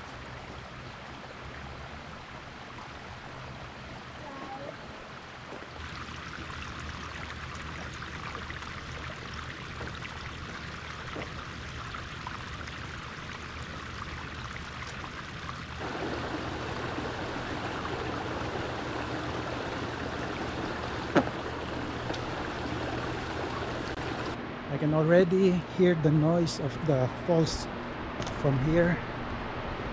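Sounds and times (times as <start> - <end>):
creek water rushing over rocks: 0.0 - 24.4.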